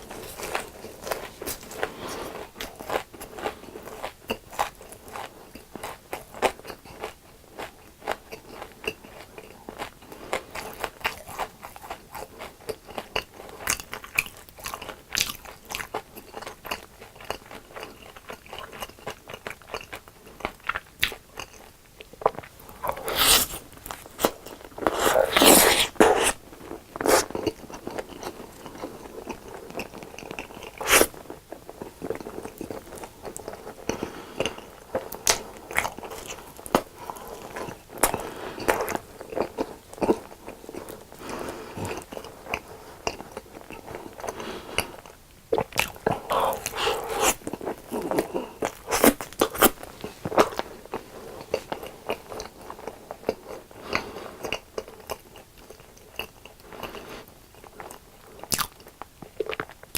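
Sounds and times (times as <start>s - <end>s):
crunchy chewing of fried food: 0.0s - 59.9s.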